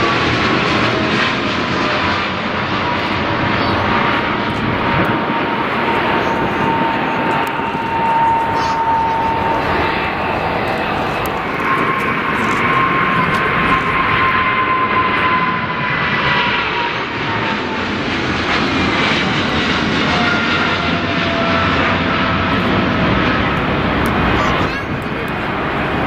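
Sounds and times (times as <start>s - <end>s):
jet airliner engines passing: 0.0s - 26.0s
lower engine whine: 0.0s - 26.0s.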